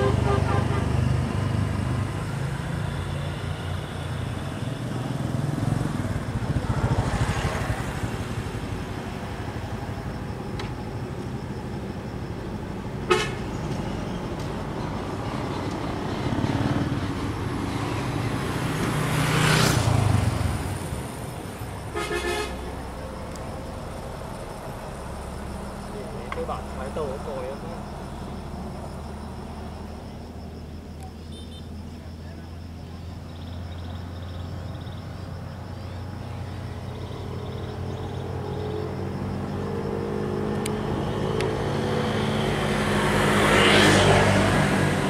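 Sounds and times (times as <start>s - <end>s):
road vehicles passing: 0.0s - 45.0s.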